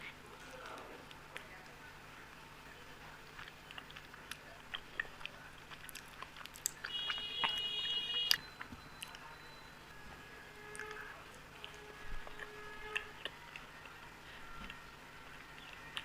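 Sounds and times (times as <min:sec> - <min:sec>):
person chewing soft sweets: 0:00.0 - 0:16.0.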